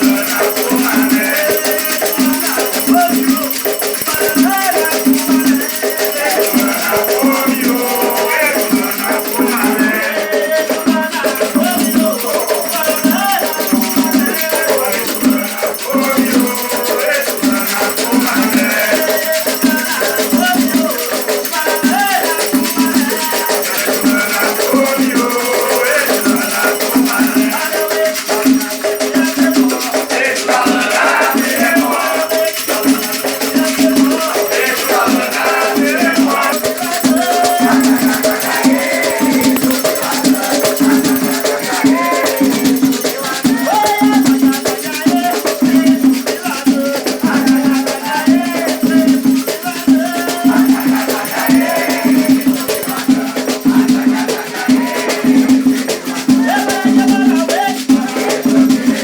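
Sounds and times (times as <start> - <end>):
shaken rattles: 0.0 - 56.8
steady drum beat: 0.0 - 59.0
voices singing: 0.0 - 59.0.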